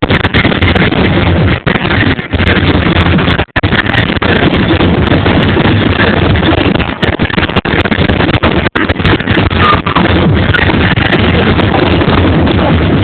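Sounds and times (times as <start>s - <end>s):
distorted fireworks rumble: 0.0s - 13.0s.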